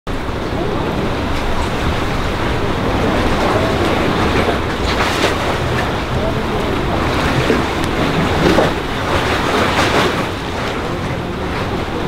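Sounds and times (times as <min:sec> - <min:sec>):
wash of open water: 0:00.1 - 0:12.0
wind on microphone: 0:00.1 - 0:12.0.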